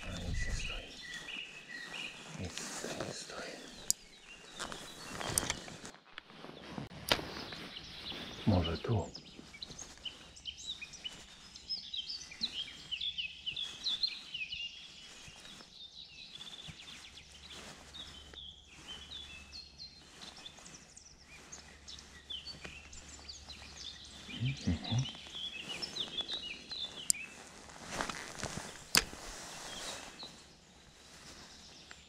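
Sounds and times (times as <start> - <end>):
birds chirping and trilling: 0.0 - 32.0.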